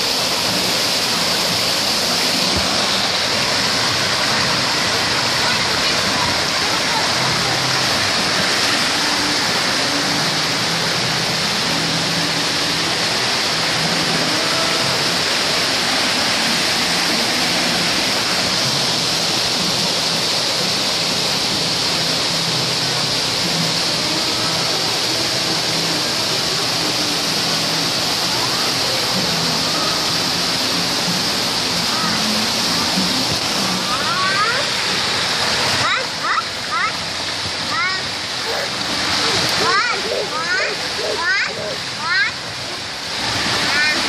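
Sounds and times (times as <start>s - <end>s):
water pouring in fountain: 0.0s - 44.0s.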